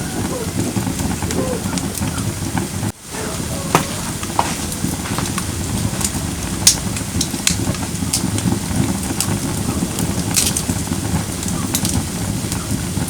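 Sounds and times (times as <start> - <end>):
fire crackling and popping: 0.0 - 13.0
firewood burning: 0.0 - 13.0.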